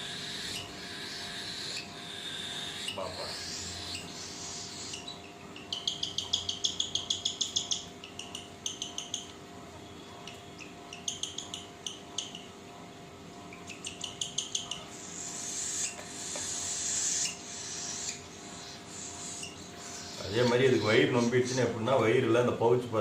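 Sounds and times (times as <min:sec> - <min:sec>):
cockatiel chick begging chirps: 0:00.0 - 0:09.4, 0:10.1 - 0:12.6, 0:13.5 - 0:21.9.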